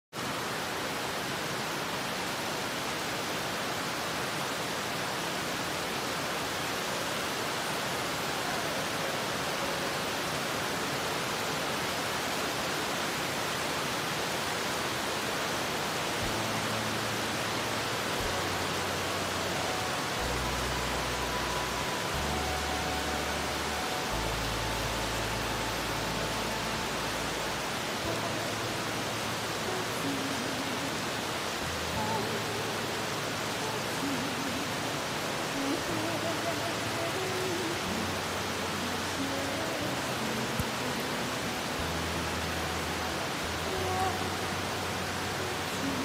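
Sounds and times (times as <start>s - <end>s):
heavy rain falling: 0.1s - 46.0s.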